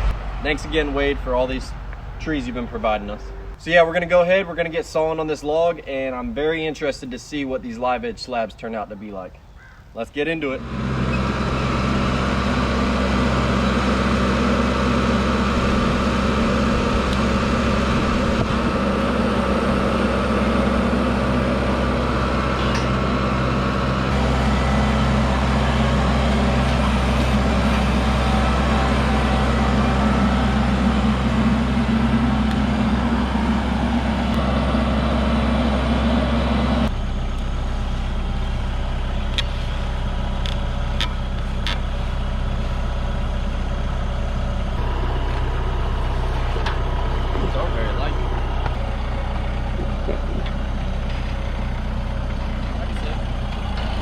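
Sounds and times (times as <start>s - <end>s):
band sawmill running: 10.5s - 54.0s.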